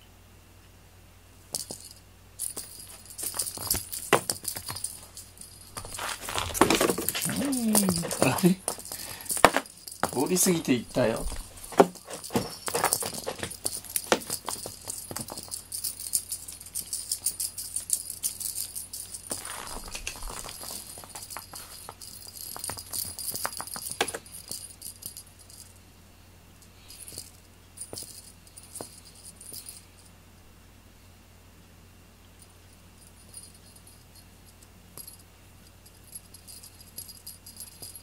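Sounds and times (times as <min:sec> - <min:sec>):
small bell jingling: 0:01.5 - 0:25.9, 0:26.6 - 0:30.2, 0:32.4 - 0:38.0.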